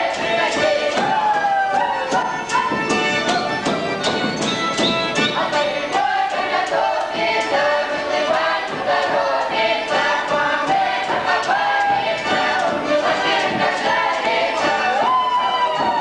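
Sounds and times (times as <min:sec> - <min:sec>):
group of people singing: 0:00.0 - 0:02.7, 0:05.2 - 0:16.0
sharp percussive beat: 0:00.0 - 0:16.0.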